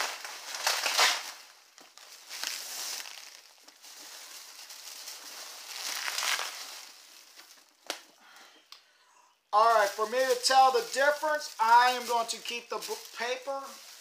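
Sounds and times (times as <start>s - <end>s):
bubble wrap crinkling: 0.0s - 8.2s, 9.6s - 14.0s.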